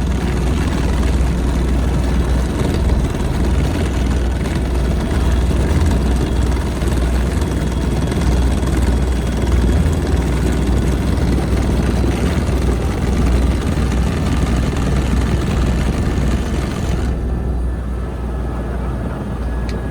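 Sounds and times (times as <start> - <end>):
helicopter rotor and engine drone: 0.0 - 19.9.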